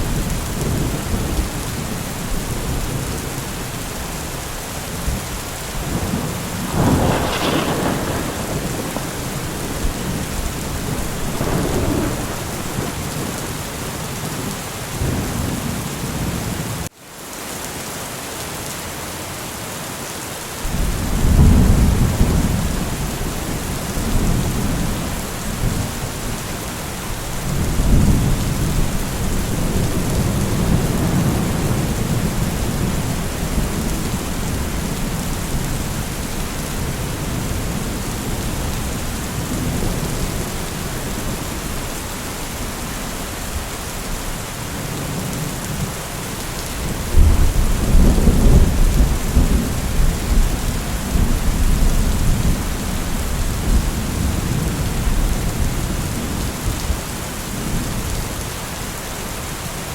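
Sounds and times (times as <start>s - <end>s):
thunder rumbling: 0.0s - 16.4s, 20.7s - 58.1s
heavy rain: 0.0s - 59.9s.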